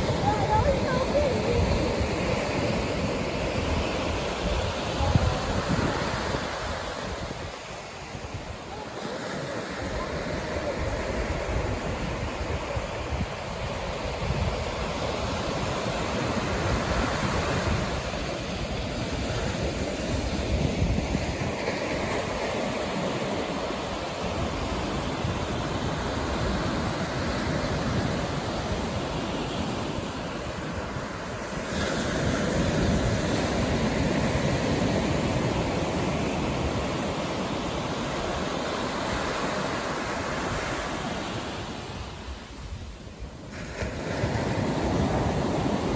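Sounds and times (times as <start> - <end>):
ocean surf breaking: 0.0 - 45.9
wind rumbling on microphone: 0.0 - 45.9.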